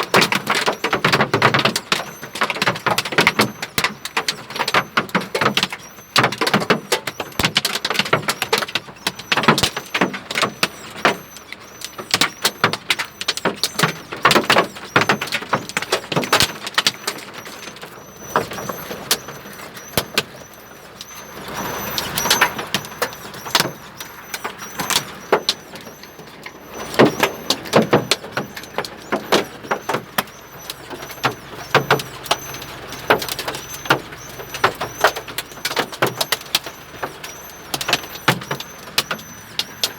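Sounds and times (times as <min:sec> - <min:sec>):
hail pelting hard surface: 0:00.0 - 0:39.9.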